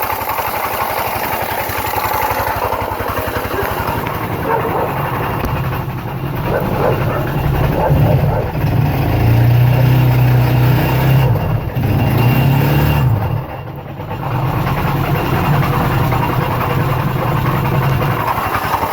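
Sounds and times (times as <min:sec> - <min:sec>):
engine grinding noise: 0:00.0 - 0:18.9
scooter engine revving and idling: 0:00.0 - 0:18.9.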